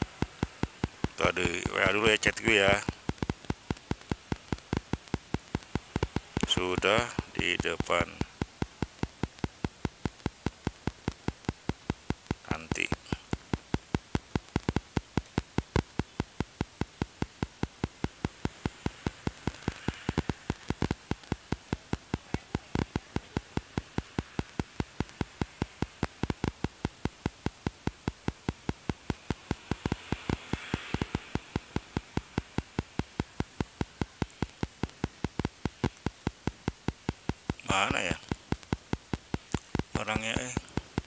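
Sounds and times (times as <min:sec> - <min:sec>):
steady sharp clicking: 0:00.0 - 0:41.0.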